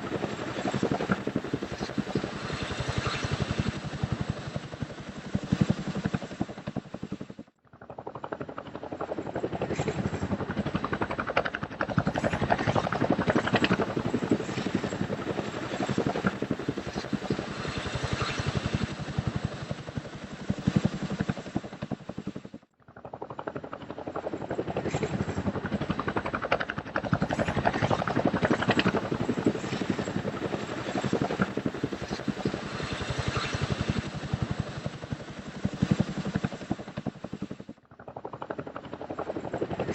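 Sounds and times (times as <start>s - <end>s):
helicopter engine noise: 0.0s - 39.9s
helicopter rotor chopping: 0.0s - 39.9s.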